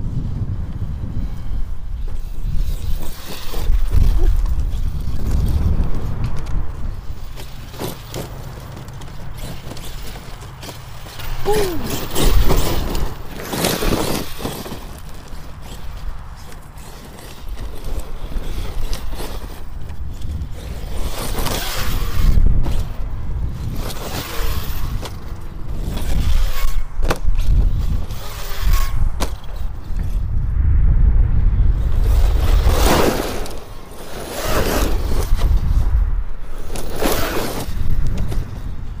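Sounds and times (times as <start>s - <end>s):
tyres on dirt and gravel: 0.0s - 39.0s.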